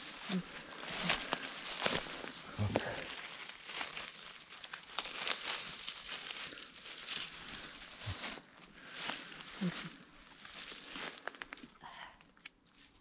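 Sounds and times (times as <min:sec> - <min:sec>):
rustling and crinkling: 0:00.0 - 0:13.0
small crackles: 0:00.0 - 0:13.0.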